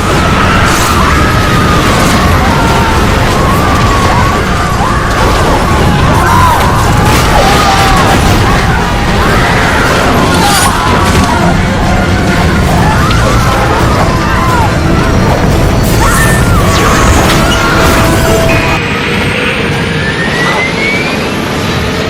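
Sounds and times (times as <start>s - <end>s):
bangs and crashes: 0.0s - 19.0s
voices crying out: 0.0s - 21.5s.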